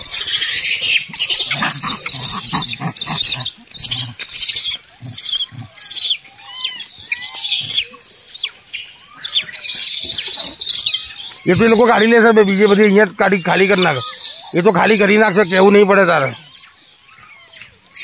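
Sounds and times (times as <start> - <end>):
monkeys shrieking and squealing: 0.0 - 18.0.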